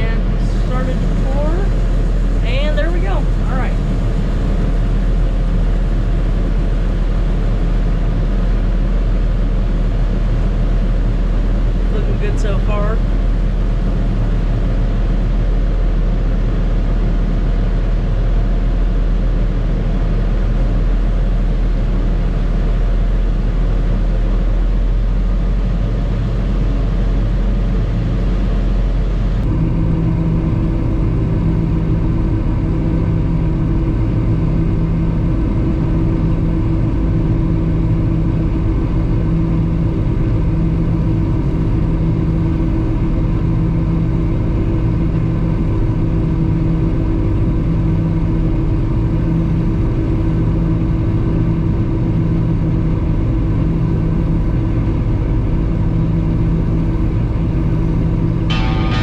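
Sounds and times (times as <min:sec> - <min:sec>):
hum with held tones: 0:00.0 - 0:59.0
tractor engine drone: 0:00.0 - 0:59.0.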